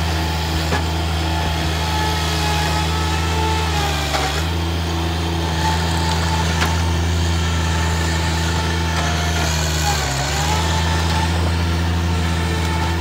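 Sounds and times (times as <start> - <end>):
loader engine running with whine: 0.0 - 13.0.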